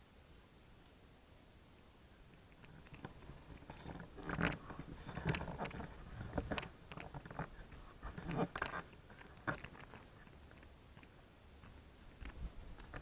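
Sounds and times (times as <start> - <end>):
irregular crunches and knocks: 2.6 - 13.0.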